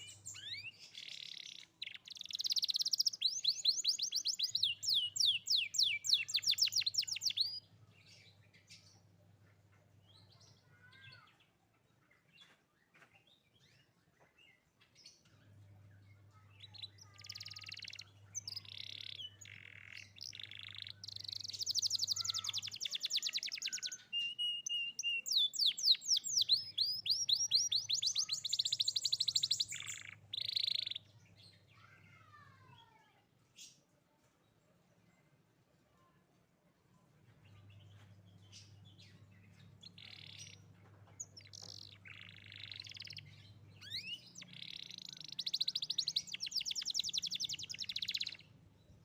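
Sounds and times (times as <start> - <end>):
canary singing trills: 0.0 - 11.3, 15.5 - 32.8, 37.4 - 49.0
faint bird chirps: 0.0 - 36.2, 36.9 - 49.0.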